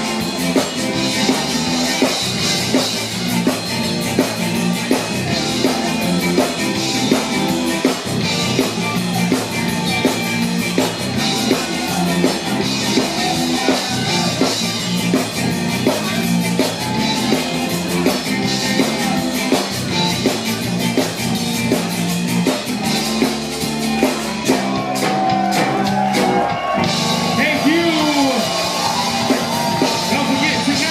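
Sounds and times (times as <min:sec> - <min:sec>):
live band dance music: 0:00.0 - 0:30.9.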